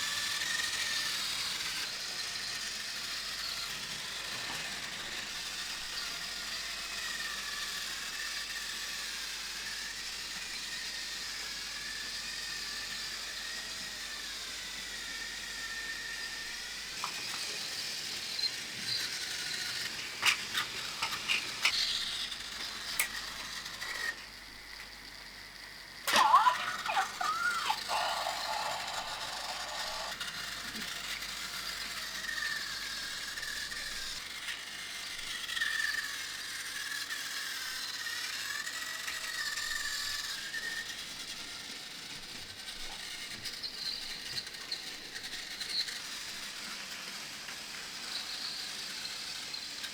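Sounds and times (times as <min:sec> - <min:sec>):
toy train motor whine: 0:00.0 - 0:49.9
toy train track clicks and rattles: 0:00.0 - 0:49.9.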